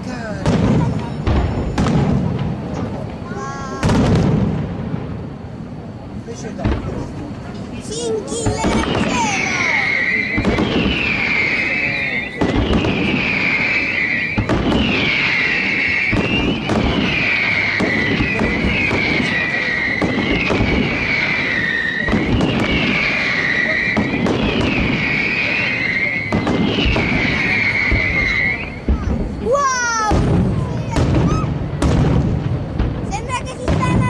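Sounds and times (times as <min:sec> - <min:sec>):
firework whistles: 0:00.0 - 0:34.0
fireworks crackling: 0:00.0 - 0:34.0
firework shells bursting: 0:06.6 - 0:34.0.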